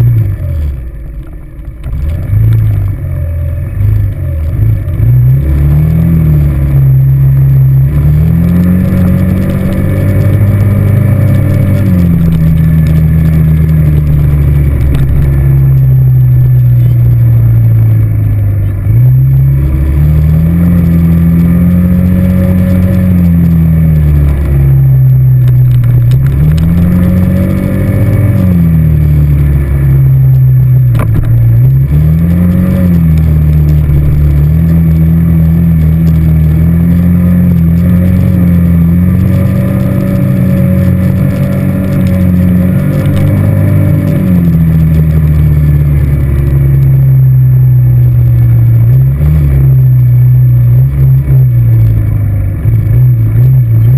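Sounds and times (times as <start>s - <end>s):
quad bike engine revving: 1.8s - 53.9s.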